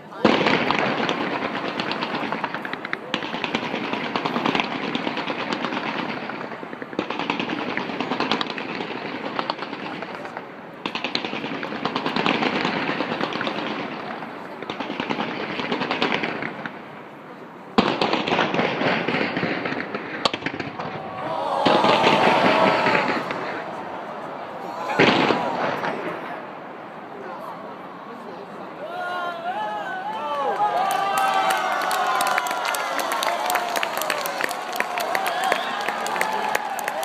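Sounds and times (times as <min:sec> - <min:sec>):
fireworks crackling: 0:00.0 - 0:28.4, 0:30.8 - 0:37.0.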